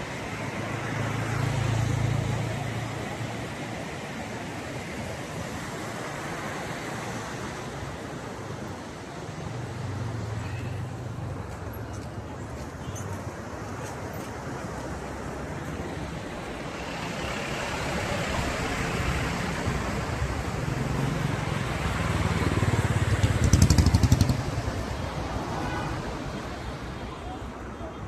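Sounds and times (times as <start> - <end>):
road vehicle hum: 0.0 - 28.0.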